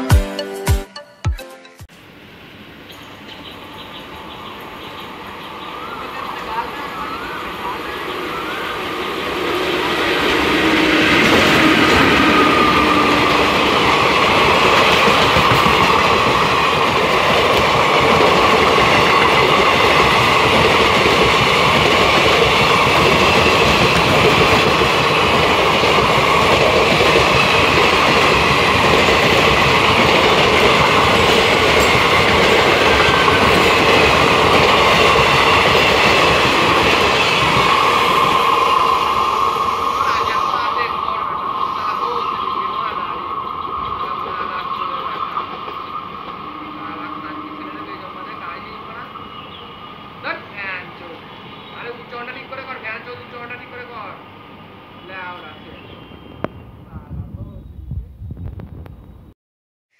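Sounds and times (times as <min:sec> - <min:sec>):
train wheels rushing on rails: 0:02.2 - 0:57.6.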